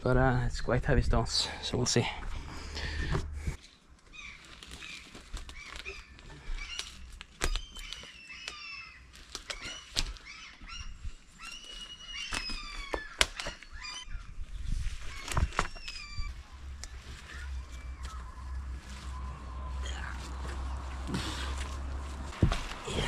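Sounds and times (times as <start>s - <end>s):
small birds singing: 4.1s - 23.0s.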